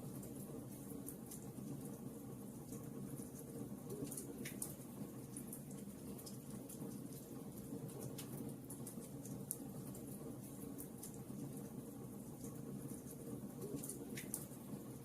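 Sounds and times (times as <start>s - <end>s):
wood fire crackling and popping: 0.2s - 14.8s.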